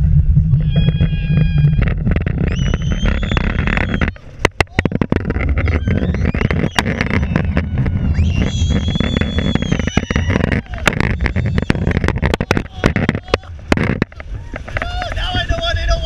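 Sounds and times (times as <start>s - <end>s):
high-pitched squeals: 0.0s - 13.2s
roller coaster rumbling and rattling: 0.0s - 16.0s
wind on microphone: 0.0s - 16.0s
sharp clicks and knocks: 0.5s - 15.7s.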